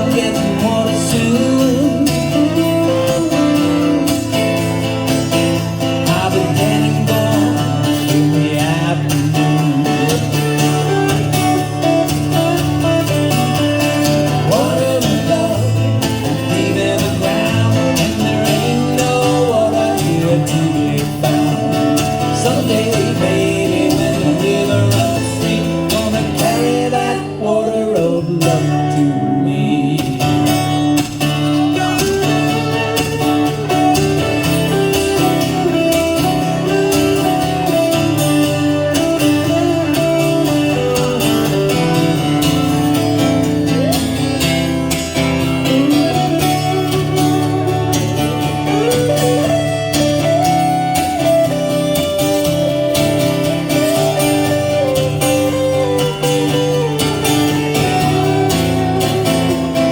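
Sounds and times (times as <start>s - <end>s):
live guitar band music: 0.0s - 59.9s.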